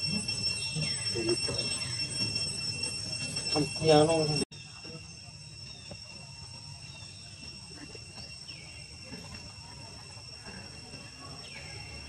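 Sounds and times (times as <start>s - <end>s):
high-pitched insect chirring: 0.0s - 12.0s.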